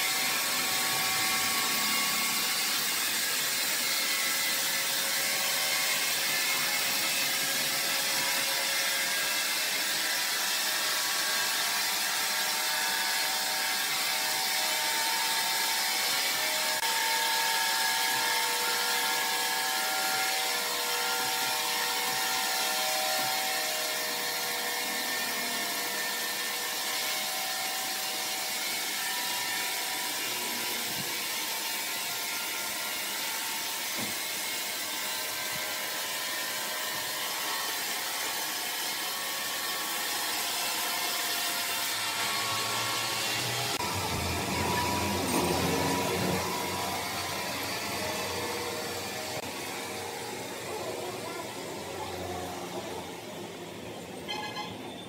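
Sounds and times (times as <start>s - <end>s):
saw cutting through timber: 0.0s - 53.7s.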